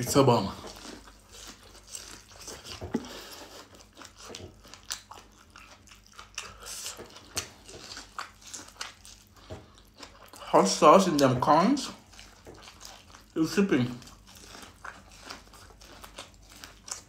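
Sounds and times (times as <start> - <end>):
person chewing corn on the cob: 0.0 - 17.0.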